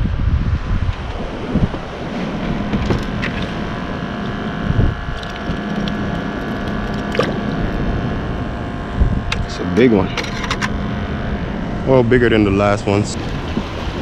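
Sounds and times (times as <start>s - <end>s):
steady mechanical hum: 0.0s - 14.0s
wind buffeting microphone: 0.0s - 14.0s.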